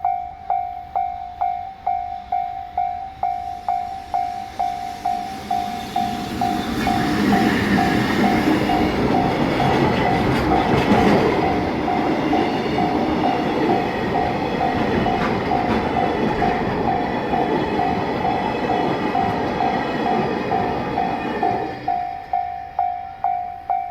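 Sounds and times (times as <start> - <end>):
train wheels clacking on rails: 1.0 - 23.9.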